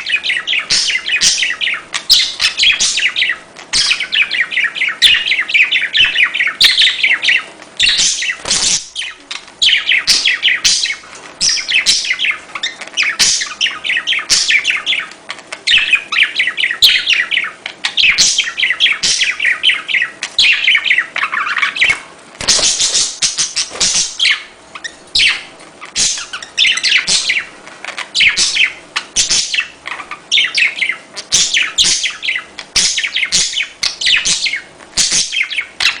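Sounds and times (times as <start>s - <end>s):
budgerigars chattering and warbling: 0.0s - 36.0s.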